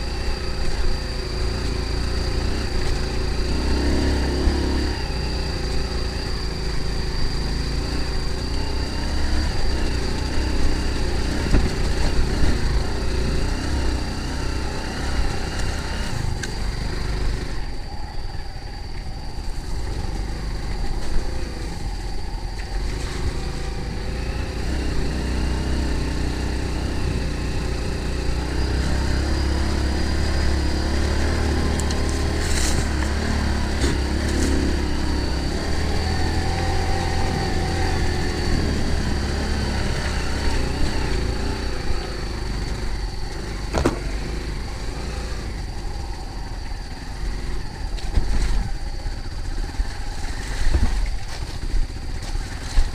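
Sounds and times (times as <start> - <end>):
vehicle engine rumbling: 0.0 - 52.9.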